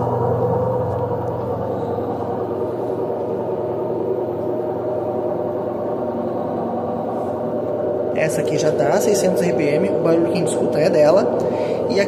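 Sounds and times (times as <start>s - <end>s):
washer-dryer drum spinning roar: 0.0s - 12.0s.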